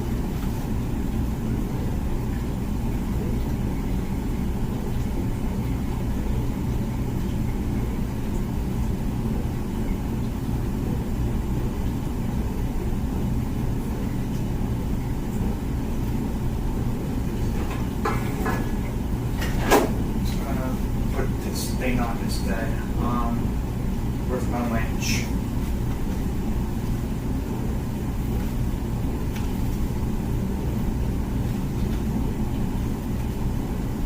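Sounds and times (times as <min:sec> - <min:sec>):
dishwasher running: 0:00.0 - 0:34.0.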